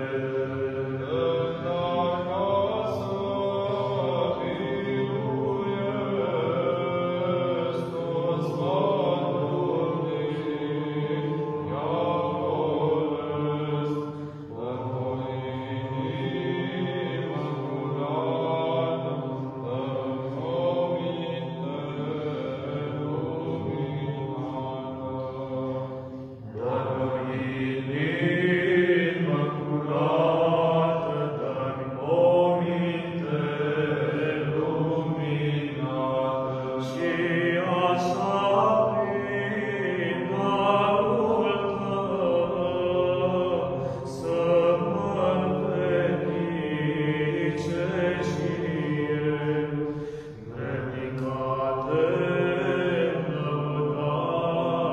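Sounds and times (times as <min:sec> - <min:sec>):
men singing church chant: 0:00.0 - 0:54.9.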